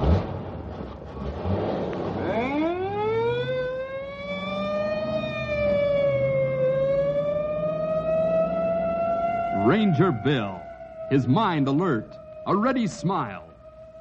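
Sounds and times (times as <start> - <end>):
police siren wailing: 2.1 - 14.0.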